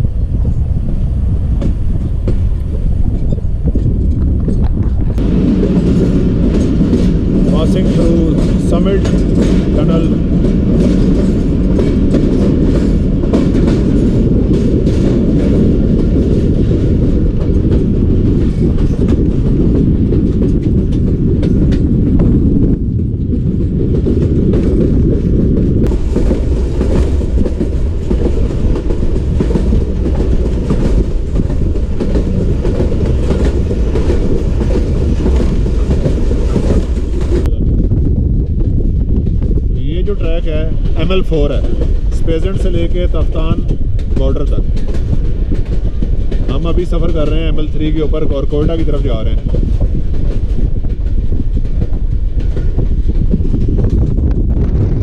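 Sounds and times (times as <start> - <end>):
heavy train rumble: 0.0 - 55.0
train wheels clacking over rail joints: 1.6 - 37.5, 40.0 - 55.0.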